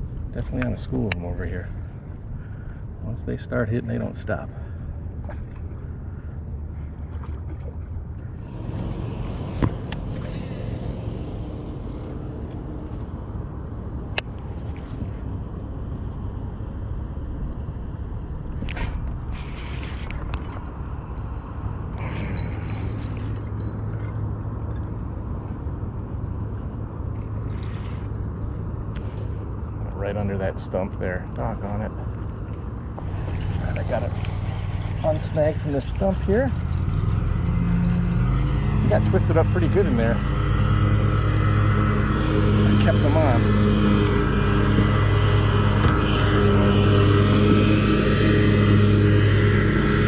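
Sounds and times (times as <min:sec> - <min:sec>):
boat low rumble: 0:00.0 - 0:50.0.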